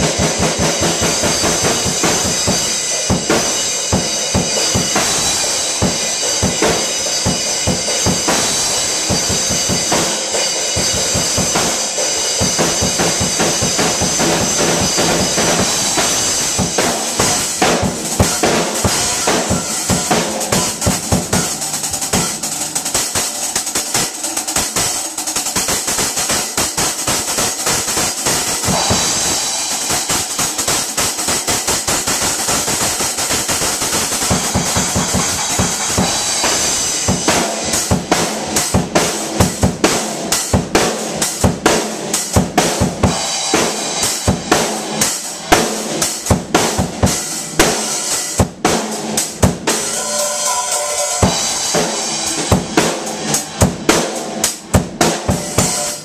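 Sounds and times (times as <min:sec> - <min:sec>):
fast acoustic drumming: 0:00.0 - 0:56.0.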